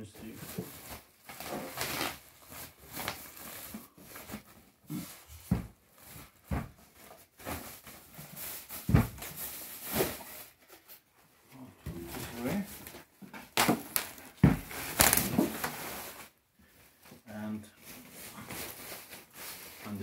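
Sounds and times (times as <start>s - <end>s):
plastic bag rustling: 0.0s - 11.1s, 12.0s - 20.0s.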